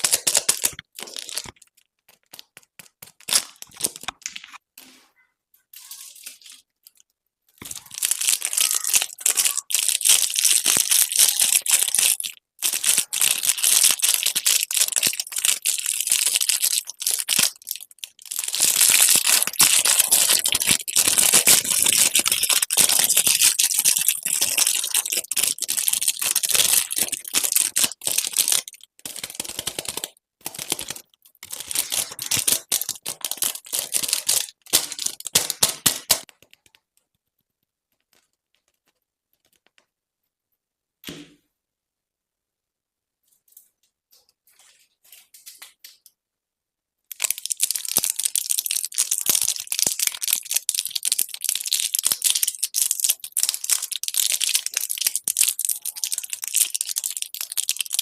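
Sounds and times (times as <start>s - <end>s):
plastic candy wrappers crinkling: 0.0s - 4.6s, 5.8s - 39.9s, 47.1s - 58.0s.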